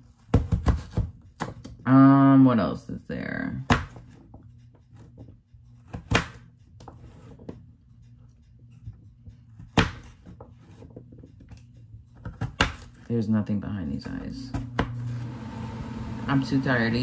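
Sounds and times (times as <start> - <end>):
low steady hum: 1.2 - 17.0.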